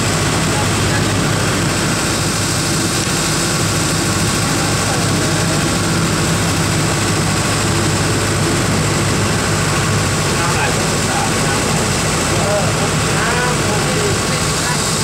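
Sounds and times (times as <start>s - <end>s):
boat engine drone: 0.0s - 15.0s
rushing water hiss: 0.0s - 15.0s.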